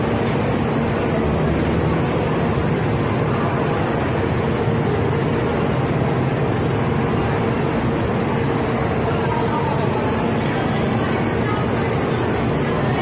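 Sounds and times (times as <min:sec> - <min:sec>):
idling vehicle engines: 0:00.0 - 0:13.0
street traffic rumble: 0:00.0 - 0:13.0.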